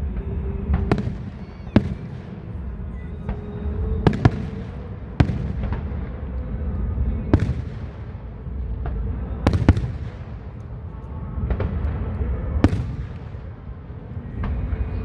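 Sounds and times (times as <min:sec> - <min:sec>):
fireworks bursting: 0:00.0 - 0:15.0
low rumble: 0:00.0 - 0:15.0.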